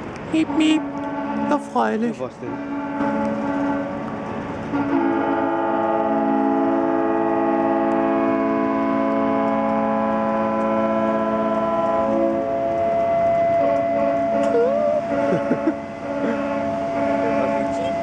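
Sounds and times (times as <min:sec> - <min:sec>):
ship horns blasting: 0:00.4 - 0:18.0.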